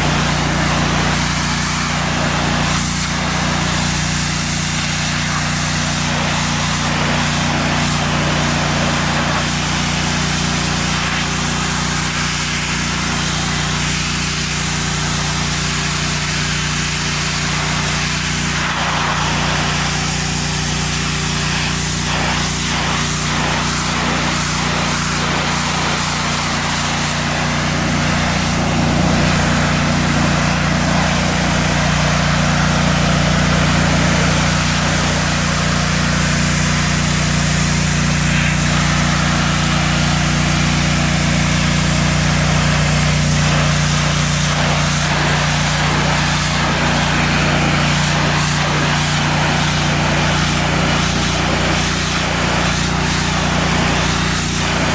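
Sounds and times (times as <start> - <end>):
pressure washer engine running: 0.0 - 54.9
water spray hissing on surface: 0.0 - 54.9.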